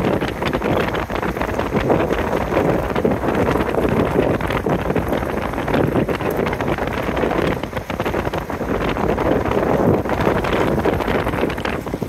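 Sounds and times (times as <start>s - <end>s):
tyre and road noise: 0.0s - 12.0s
wind buffeting microphone: 0.0s - 12.0s.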